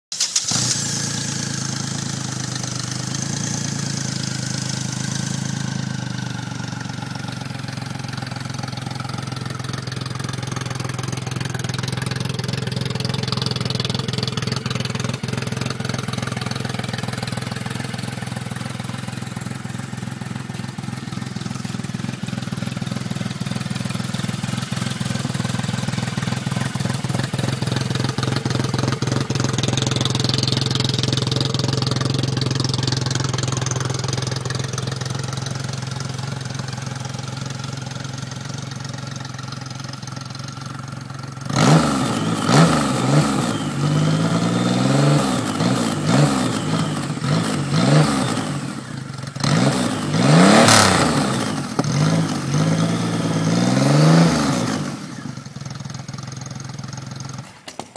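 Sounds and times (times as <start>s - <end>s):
motorcycle engine idling: 0.1s - 57.9s.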